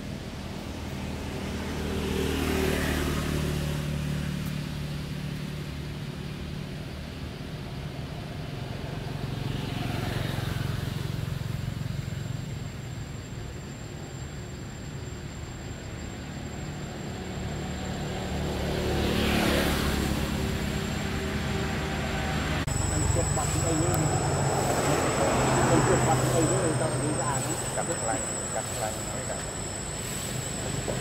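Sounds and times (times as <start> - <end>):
low engine hum: 0.0 - 31.0
vehicles passing by: 0.0 - 31.0.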